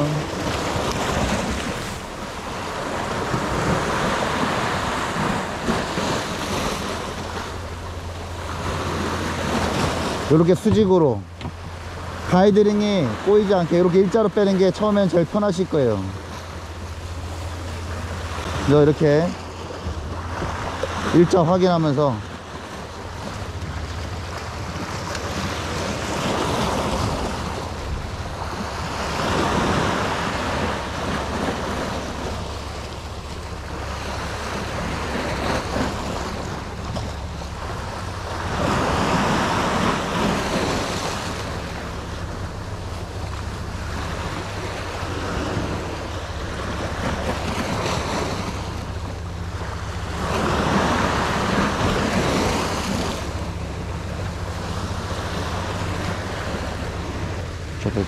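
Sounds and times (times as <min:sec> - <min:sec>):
sea waves washing against rocks: 0:00.0 - 0:58.0
wind rumble on microphone: 0:00.0 - 0:58.0.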